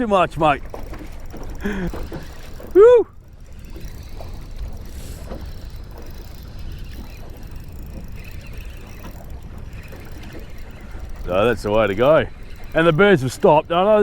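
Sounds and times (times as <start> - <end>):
low rumble of wind and water: 0.0 - 14.0
faint ticks: 0.4 - 14.0.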